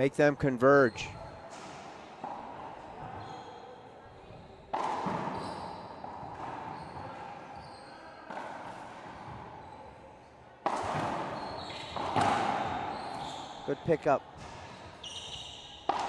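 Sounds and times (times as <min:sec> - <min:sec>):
racquetball hits echoing: 0:01.1 - 0:03.7, 0:04.6 - 0:09.8, 0:10.6 - 0:16.0.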